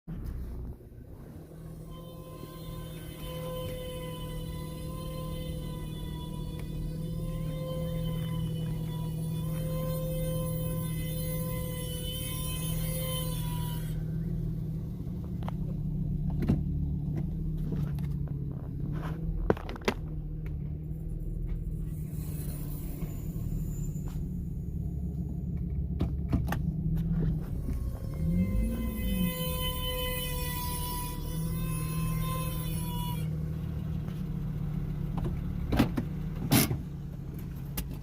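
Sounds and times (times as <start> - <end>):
car low rumbling drone: 0.1 - 38.0.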